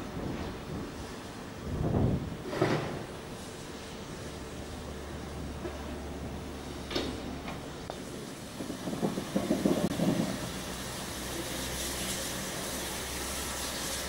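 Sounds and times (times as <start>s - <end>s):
hiss: 0.0s - 14.0s.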